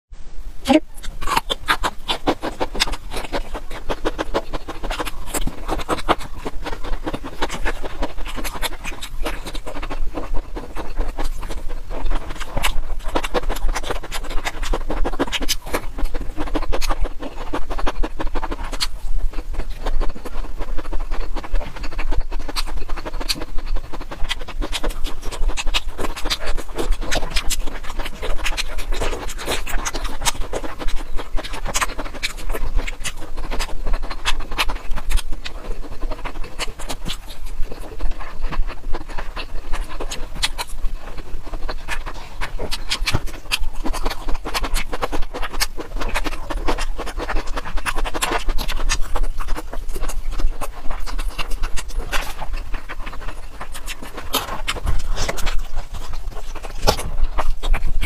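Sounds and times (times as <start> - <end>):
chewing crunchy vegetable: 0.5 - 58.0.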